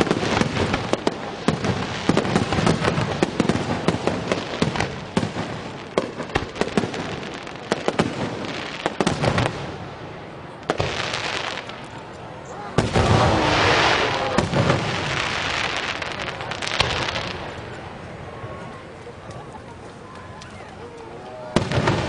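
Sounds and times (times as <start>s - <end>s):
fireworks bangs: 0.0s - 19.8s, 21.4s - 22.0s
fireworks crackling: 0.0s - 22.0s.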